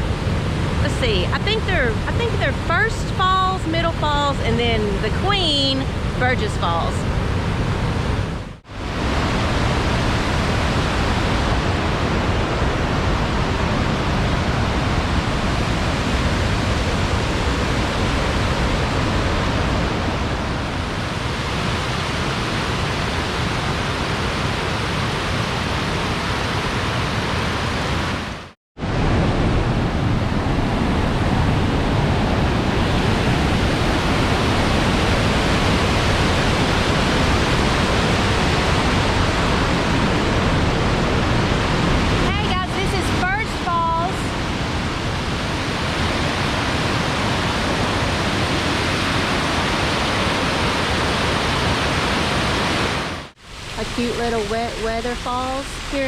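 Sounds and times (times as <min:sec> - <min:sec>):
flooded river rushing: 0:04.6 - 0:56.0.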